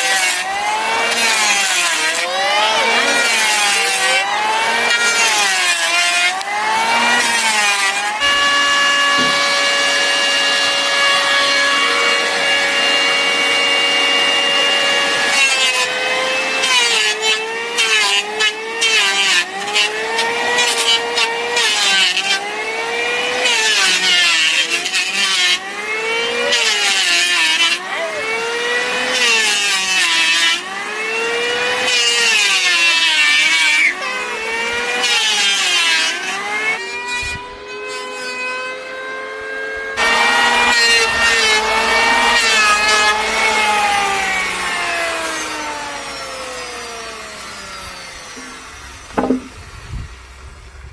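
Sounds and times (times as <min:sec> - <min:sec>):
electric planer shaving wood: 0:00.0 - 0:50.9.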